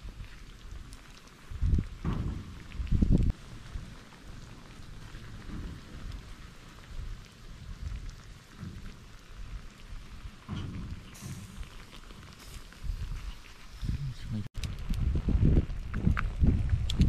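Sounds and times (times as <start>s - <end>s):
low uneven rumble: 0.0s - 17.0s
snails sizzling on grill: 0.0s - 17.0s.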